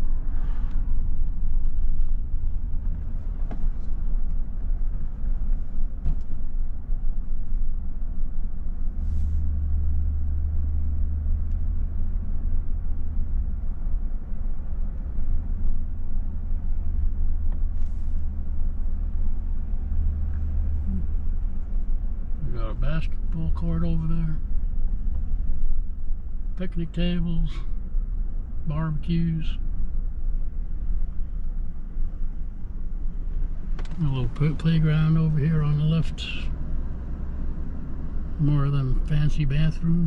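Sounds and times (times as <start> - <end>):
car interior road noise: 0.0 - 40.0.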